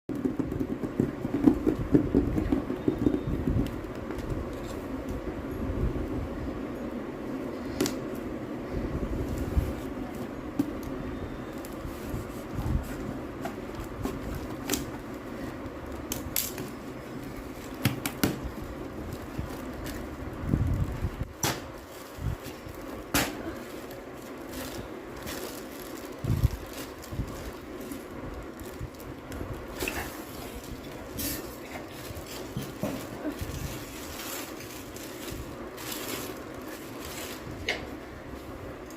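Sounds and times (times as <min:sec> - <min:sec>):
steady fan hum: 0:00.1 - 0:38.9.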